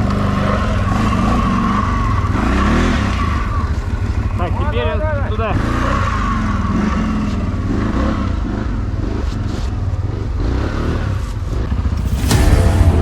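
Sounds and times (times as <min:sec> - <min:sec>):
quad engine revving: 0:00.0 - 0:13.0.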